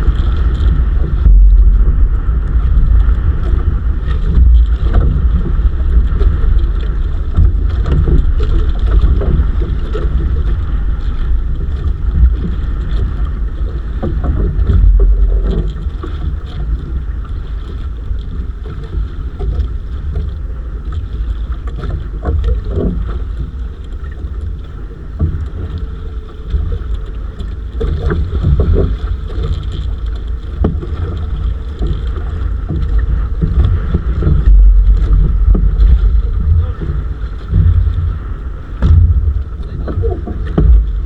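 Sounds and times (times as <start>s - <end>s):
steady hum: 0.0s - 41.0s
wind rumbling on microphone: 0.0s - 41.0s.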